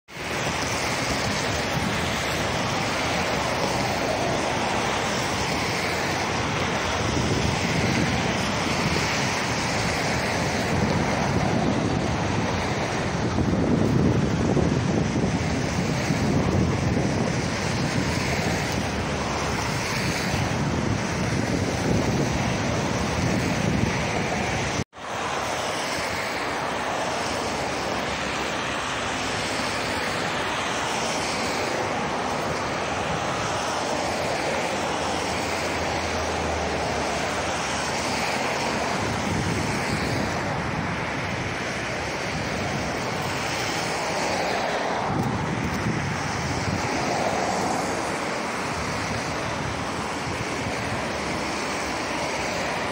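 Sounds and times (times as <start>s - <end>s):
distant trains rumbling: 0.1s - 52.9s
wind noise on microphone: 0.1s - 52.9s.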